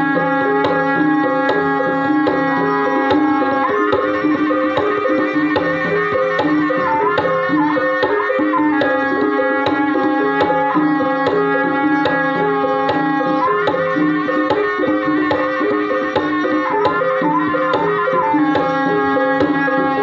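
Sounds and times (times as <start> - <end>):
gamelan music: 0.0 - 20.0
hand drum strokes: 0.0 - 20.0
wavering melodic line: 0.0 - 20.0.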